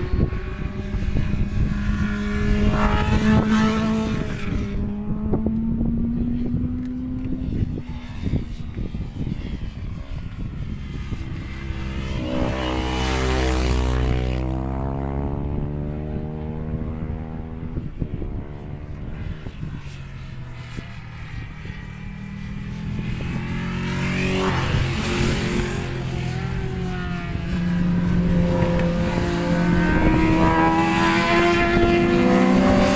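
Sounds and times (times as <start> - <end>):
engine passing by: 0.0 - 32.9
wind rumble on microphone: 0.0 - 32.9.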